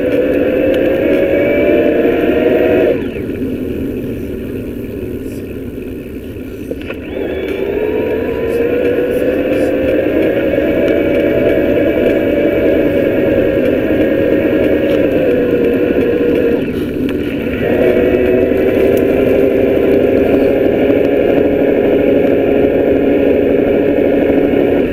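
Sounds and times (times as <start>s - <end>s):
electric bike motor whine: 0.0s - 24.9s.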